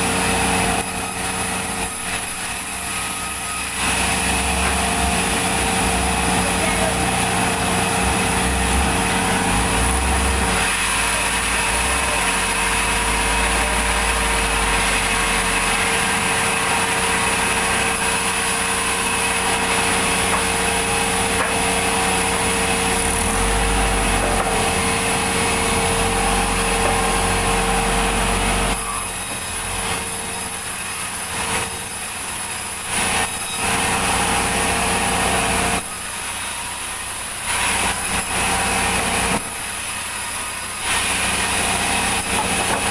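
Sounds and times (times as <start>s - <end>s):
machine drone: 0.0s - 42.9s
saw cutting through log: 0.0s - 42.9s.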